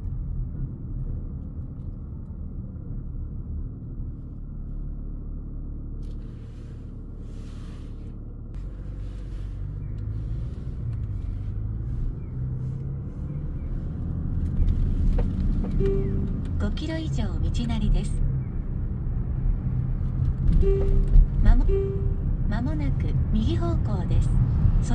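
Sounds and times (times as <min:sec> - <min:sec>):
engine and road rumble: 0:00.0 - 0:24.9.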